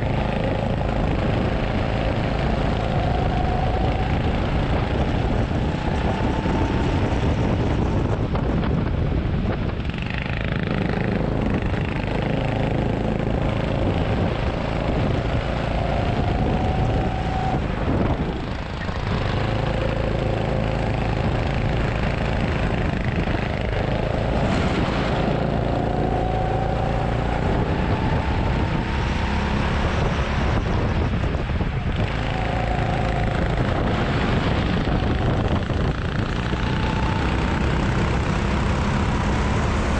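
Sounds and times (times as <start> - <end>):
go-kart motor at racing speed: 0.0 - 39.9.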